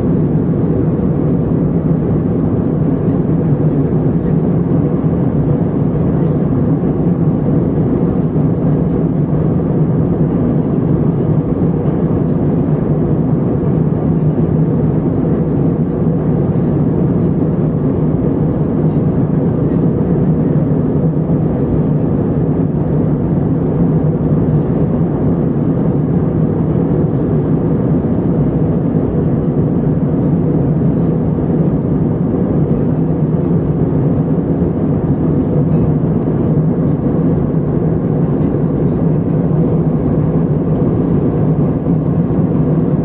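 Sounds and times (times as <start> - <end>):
airplane cabin engine drone: 0.0 - 43.0.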